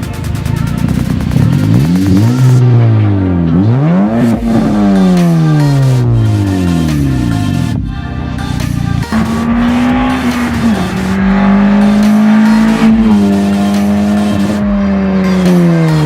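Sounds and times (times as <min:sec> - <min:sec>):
car engine revving high: 0:00.8 - 0:07.7, 0:08.6 - 0:16.0.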